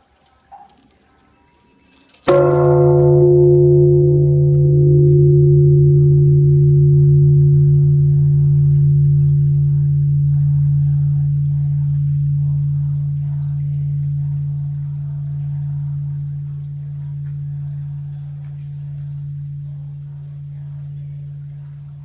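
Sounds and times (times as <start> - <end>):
temple bell struck with wooden log: 2.2 - 22.0.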